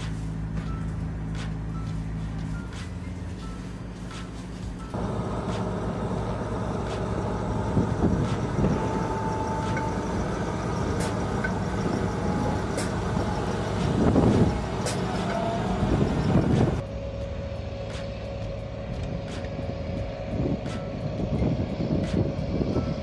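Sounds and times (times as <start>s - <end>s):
diesel truck engine driving: 0.0s - 23.0s.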